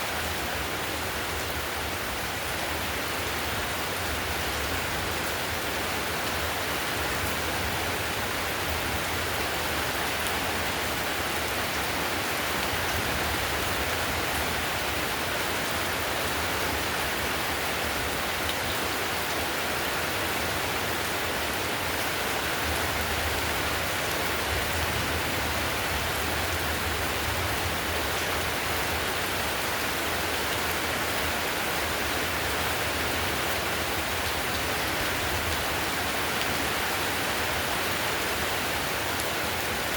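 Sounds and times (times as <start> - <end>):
heavy rain on a tile roof: 0.0 - 39.9.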